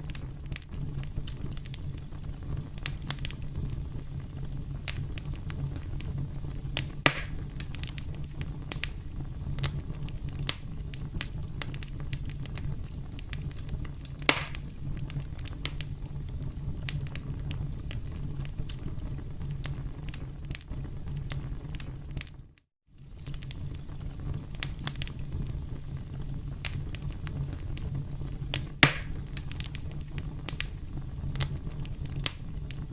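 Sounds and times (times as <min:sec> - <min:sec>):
campfire crackling: 0:00.0 - 0:22.3, 0:23.0 - 0:32.9
campfire pops: 0:00.0 - 0:22.3, 0:23.0 - 0:32.9.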